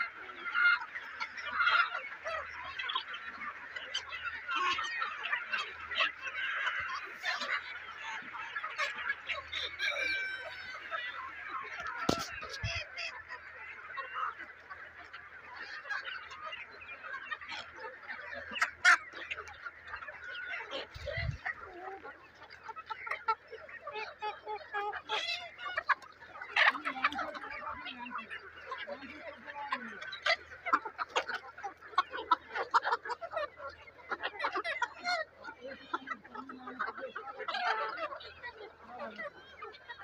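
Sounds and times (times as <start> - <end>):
chickens clucking: 0.0 - 40.0
sharp chicken calls: 0.0 - 40.0.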